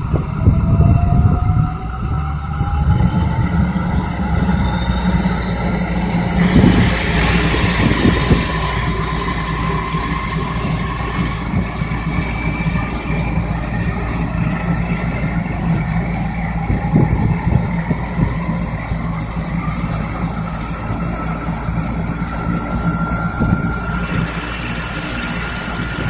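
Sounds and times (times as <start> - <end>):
higher turbine whine: 0.0 - 26.0
turboprop engine spooling up: 0.0 - 26.0.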